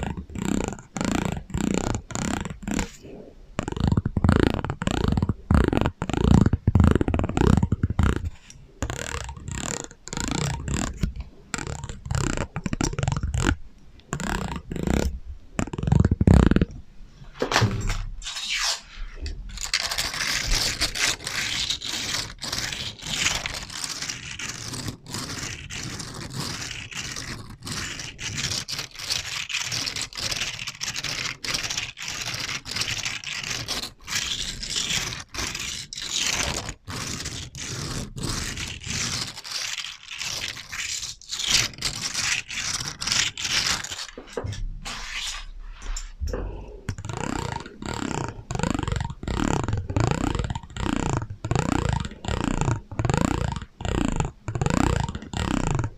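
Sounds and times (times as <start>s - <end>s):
rough scraping and scratching: 0.0s - 55.9s.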